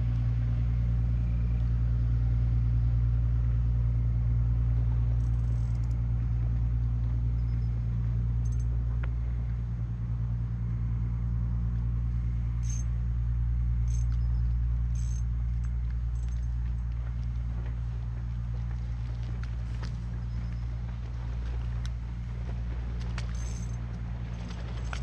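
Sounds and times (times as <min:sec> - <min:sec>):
motor running drone: 0:00.0 - 0:25.0.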